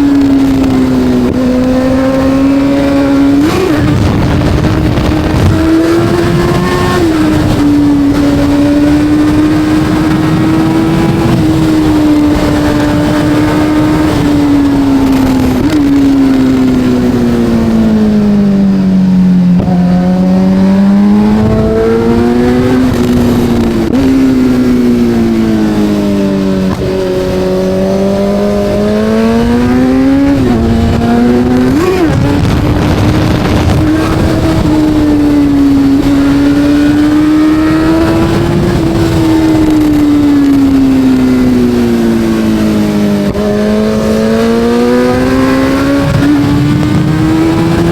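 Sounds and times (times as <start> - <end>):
motorcycle engine accelerating and slowing: 0.0 - 47.9.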